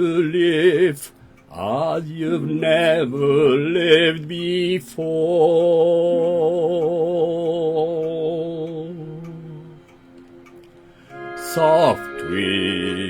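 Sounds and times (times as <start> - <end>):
person singing a ballad: 0.0 - 10.0, 11.1 - 13.0
sustained accompaniment chord: 0.0 - 13.0.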